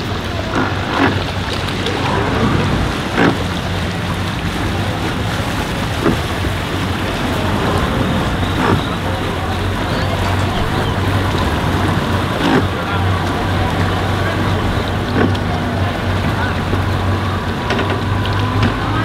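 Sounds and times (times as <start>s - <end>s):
outboard boat engines idling: 0.0s - 19.0s
water washing: 0.0s - 19.0s.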